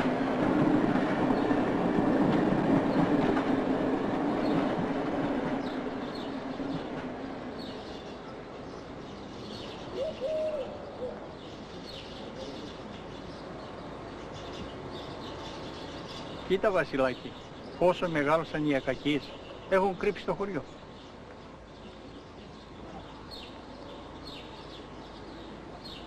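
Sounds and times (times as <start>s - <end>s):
passenger train rumbling past: 0.0s - 26.0s
small birds chirping: 4.4s - 26.0s.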